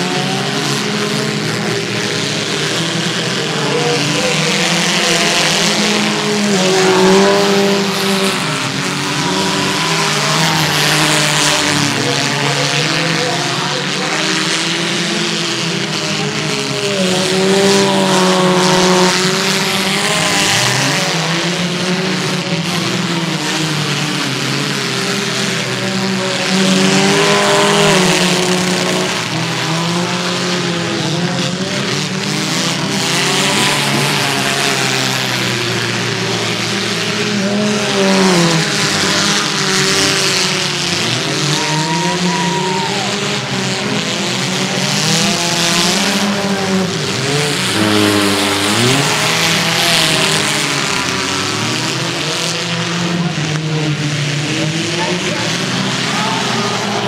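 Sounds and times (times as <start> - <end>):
small car engines revving: 0.0 - 57.0.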